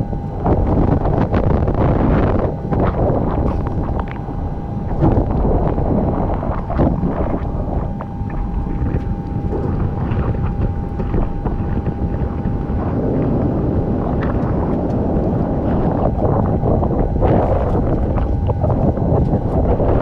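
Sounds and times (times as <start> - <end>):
rushing sea water: 0.0 - 20.0
wind buffeting microphone: 0.0 - 20.0.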